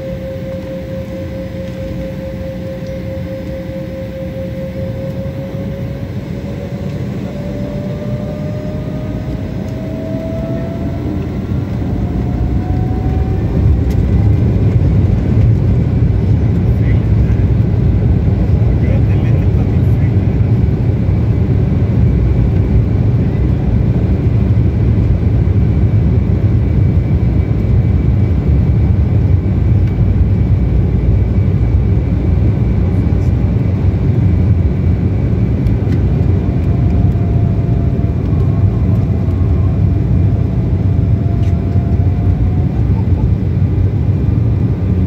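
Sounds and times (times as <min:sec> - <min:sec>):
faint engine whine: 0:00.0 - 0:45.0
jet engines roaring: 0:00.0 - 0:45.0.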